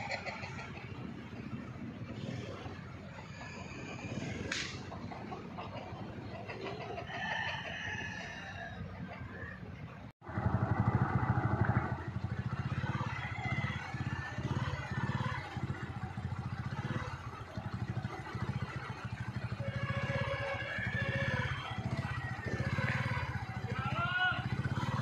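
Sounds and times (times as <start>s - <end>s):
engine running with low pulse: 0.0s - 25.0s.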